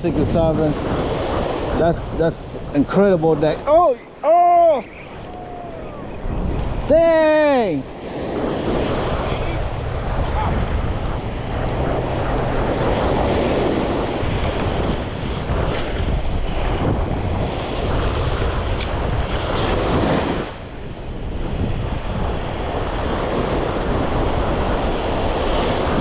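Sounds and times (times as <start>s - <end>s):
surf breaking on sand: 0.0s - 26.0s
wind buffeting microphone: 0.0s - 26.0s.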